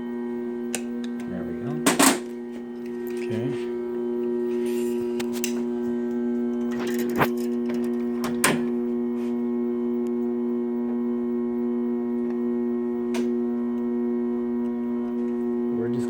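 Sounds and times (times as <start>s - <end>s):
wire-spooling machine humming: 0.0s - 16.0s.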